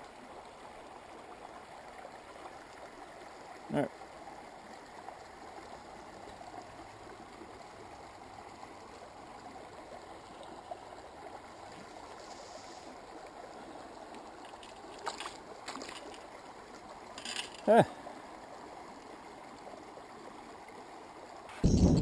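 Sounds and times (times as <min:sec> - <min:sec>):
stream water flowing: 0:00.0 - 0:22.0.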